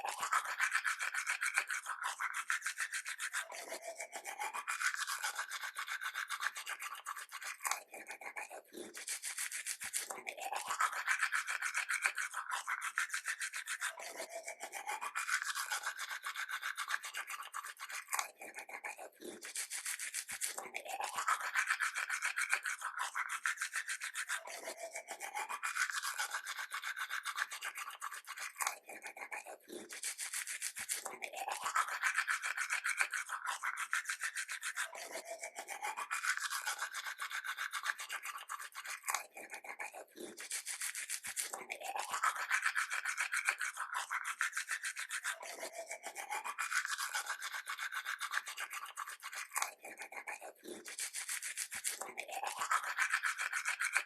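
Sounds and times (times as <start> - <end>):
toothbrush scrubbing teeth: 0.0 - 54.0.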